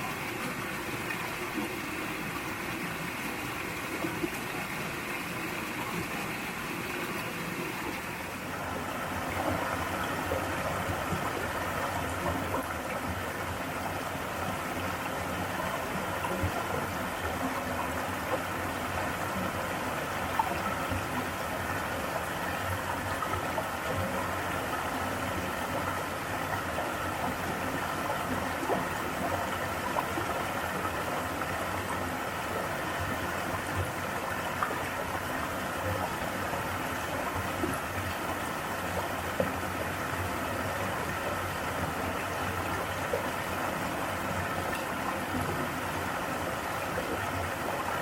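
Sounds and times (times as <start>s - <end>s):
stream running over rocks: 0.0s - 48.0s.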